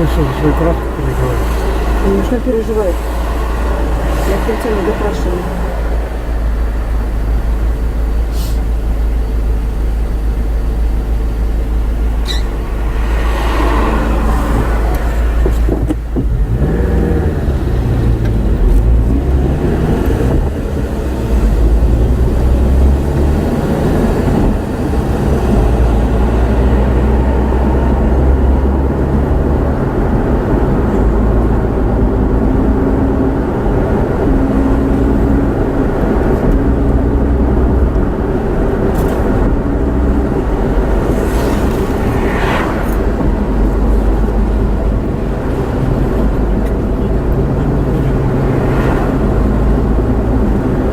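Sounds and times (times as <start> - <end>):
car engine running: 0.0 - 50.9
road rumble: 0.0 - 50.9.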